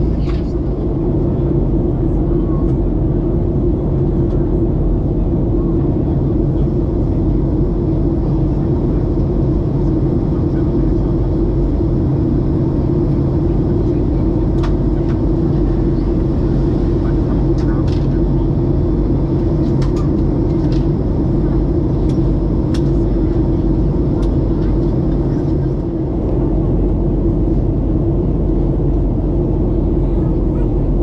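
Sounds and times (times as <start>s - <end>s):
airplane cabin engine noise: 0.0s - 31.0s
constant low hum: 0.0s - 31.0s.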